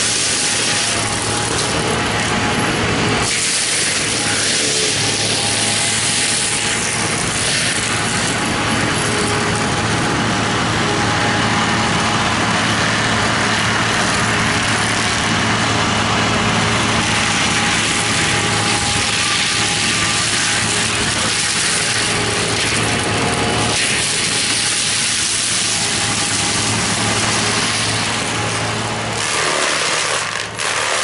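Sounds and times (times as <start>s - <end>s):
excavator engine drone: 0.0s - 31.0s.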